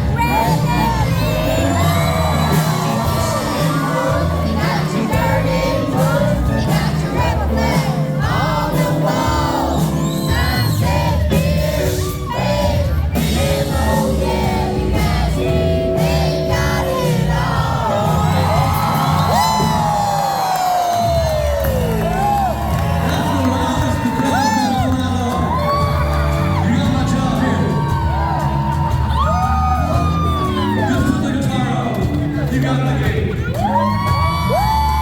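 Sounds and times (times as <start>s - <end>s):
lead vocal singing: 0.0s - 21.4s, 22.1s - 35.0s
crowd whooping and cheering: 0.0s - 32.4s, 33.3s - 35.0s
country band playing: 0.0s - 35.0s.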